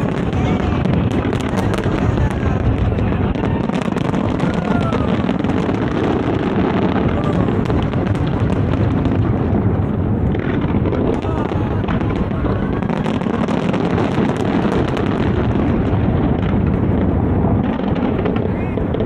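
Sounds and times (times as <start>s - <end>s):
firework booms: 0.0s - 19.0s
fireworks crackling: 0.0s - 19.0s.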